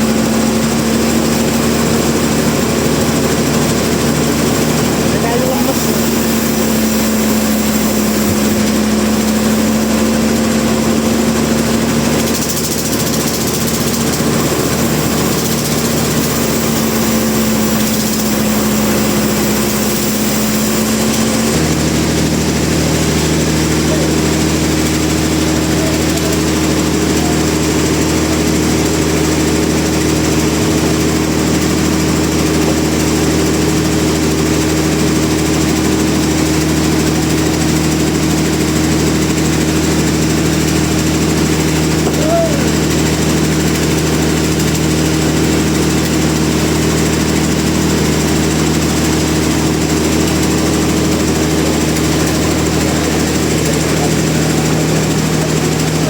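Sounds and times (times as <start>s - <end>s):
noisy background: 0.0s - 45.4s
sawmill machinery humming: 0.0s - 56.0s.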